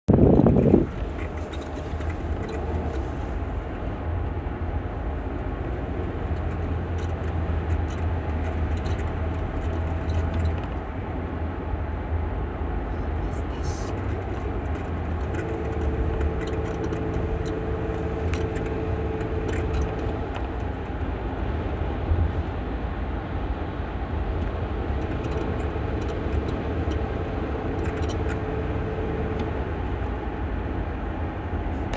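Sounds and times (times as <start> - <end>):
road and engine rumble: 0.1 - 31.9.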